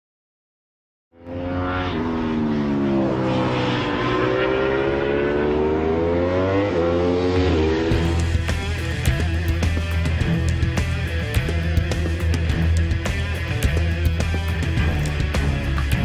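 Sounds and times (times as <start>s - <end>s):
racing motorcycle engine accelerating: 1.2s - 16.0s.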